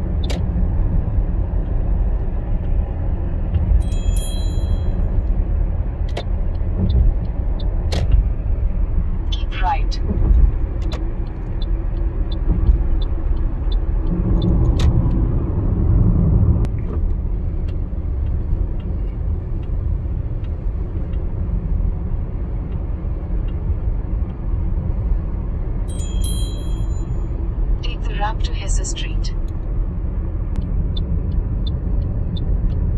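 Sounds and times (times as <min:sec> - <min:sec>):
car road noise rumble: 0:00.0 - 0:32.9.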